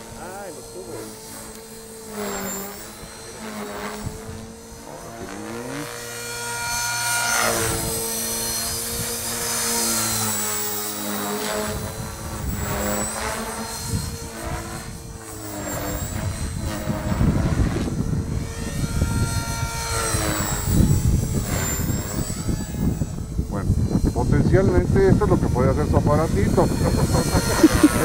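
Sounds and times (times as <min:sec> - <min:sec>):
model helicopter motor whine: 0:00.0 - 0:28.0.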